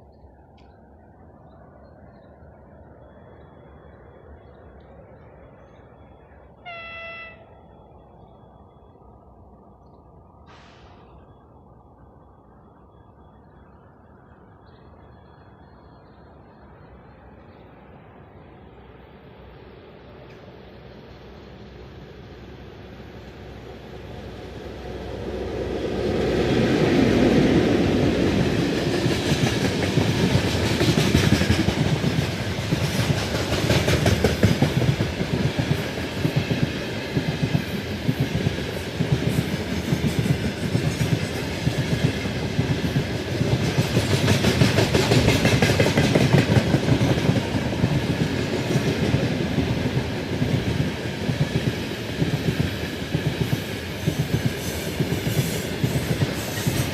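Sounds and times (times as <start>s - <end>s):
train passing: 0.0s - 56.9s.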